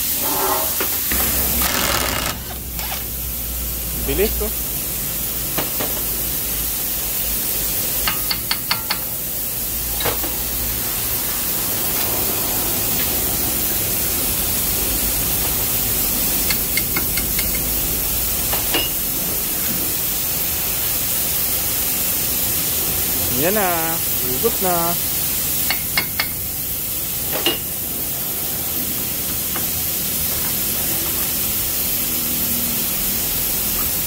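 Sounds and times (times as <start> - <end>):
steady hiss: 2.6 - 34.0.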